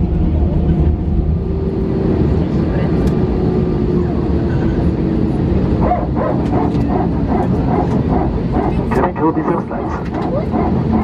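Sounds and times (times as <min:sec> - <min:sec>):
aircraft cabin rumble: 0:00.0 - 0:11.0
engine whine dropping in pitch: 0:00.0 - 0:11.0.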